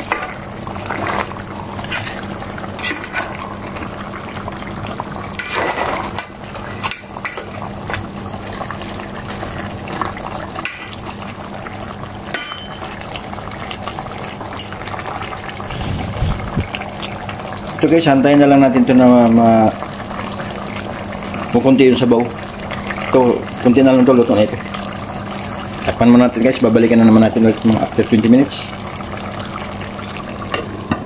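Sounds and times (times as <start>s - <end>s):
sauce bubbling and popping: 0.0s - 28.1s, 28.7s - 30.8s.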